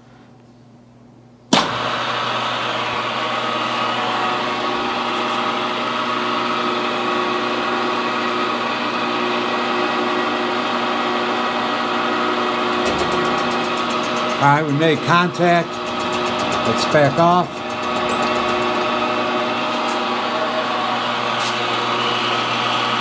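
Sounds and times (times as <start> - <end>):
milling machine spindle humming: 1.8 - 23.0.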